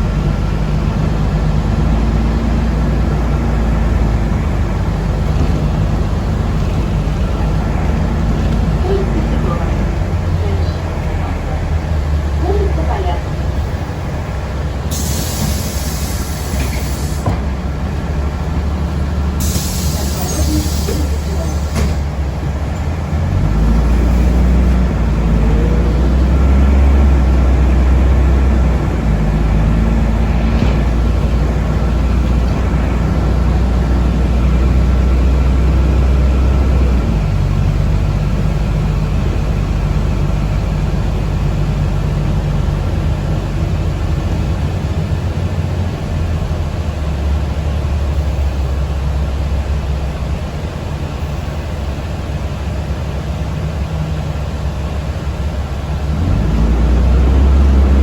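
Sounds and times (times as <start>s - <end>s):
bus drivetrain and road rumble: 0.0s - 58.0s.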